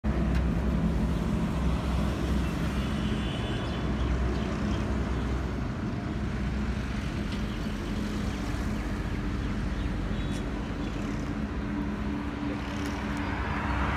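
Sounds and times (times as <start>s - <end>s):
vehicle engine humming: 0.0s - 13.9s.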